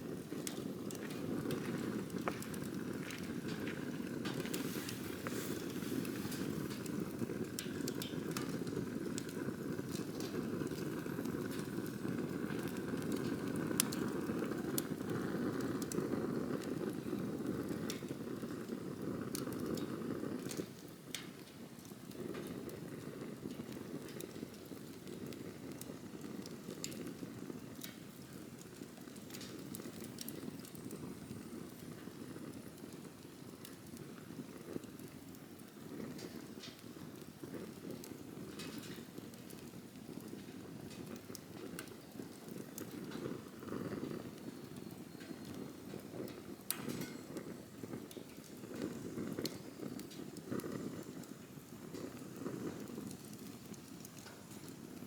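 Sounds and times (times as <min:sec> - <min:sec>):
campfire crackling and popping: 0:00.0 - 0:55.0
low rush of fire: 0:00.0 - 0:55.0.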